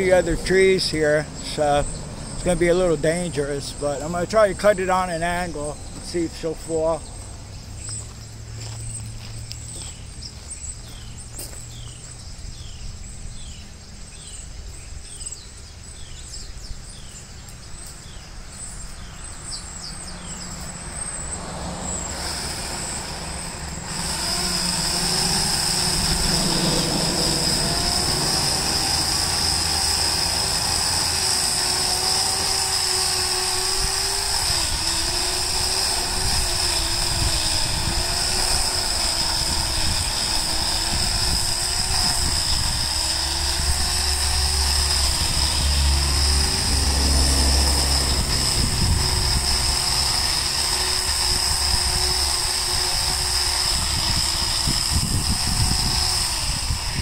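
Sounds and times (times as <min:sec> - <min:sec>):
electric chainsaw whining: 0:00.0 - 0:57.0.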